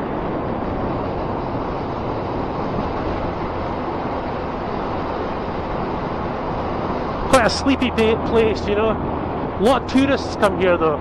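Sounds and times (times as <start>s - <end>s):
motorcycle engine drone: 0.0s - 11.0s
wind rushing over microphone: 0.0s - 11.0s.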